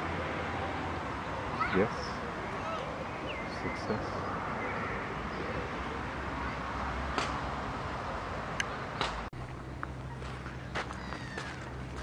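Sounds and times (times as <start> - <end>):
outdoor rushing background noise: 0.0 - 12.0.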